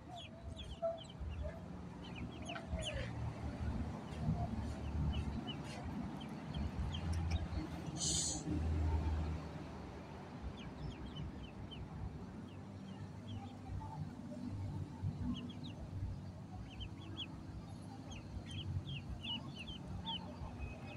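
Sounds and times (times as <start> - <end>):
ducklings peeping: 0.0 - 9.2, 10.4 - 20.9.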